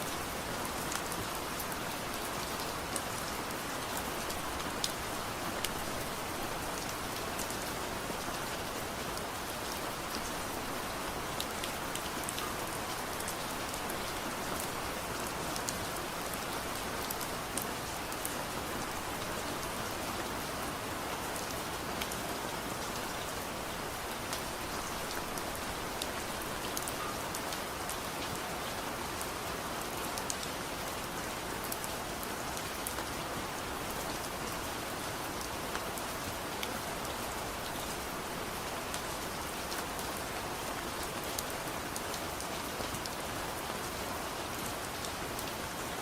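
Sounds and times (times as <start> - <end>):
soft rain hiss: 0.0 - 46.0.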